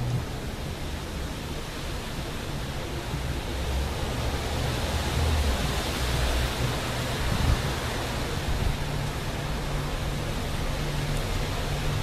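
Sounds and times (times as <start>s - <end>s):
wind rustling bushes: 0.0s - 12.0s.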